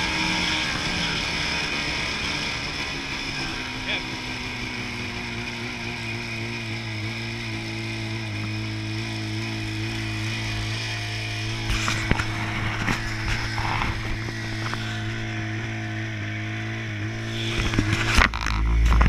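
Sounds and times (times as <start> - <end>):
snowmobile engine idling: 0.0 - 19.0.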